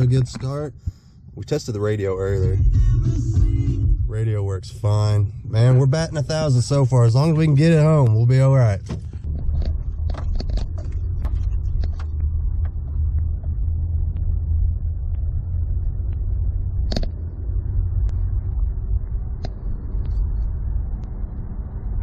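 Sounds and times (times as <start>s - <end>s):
engine and road rumble in car: 0.0s - 22.0s.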